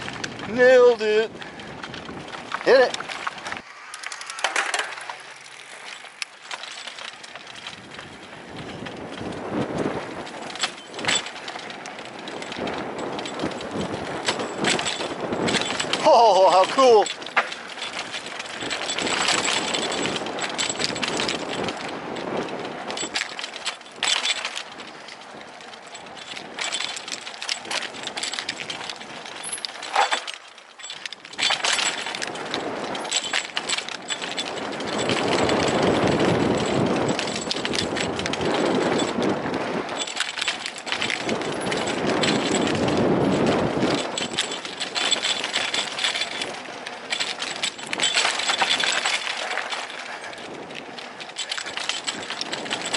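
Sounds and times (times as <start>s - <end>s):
wind rushing over microphone: 0.0s - 6.3s, 7.0s - 30.3s, 30.9s - 52.9s
mountain bike rattling over bumps: 0.0s - 52.9s.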